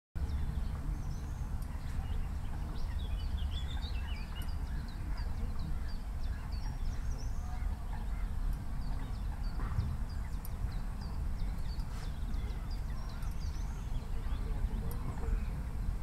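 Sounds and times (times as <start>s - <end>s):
birds chirping: 0.2s - 16.0s
steady low rumble: 0.2s - 16.0s.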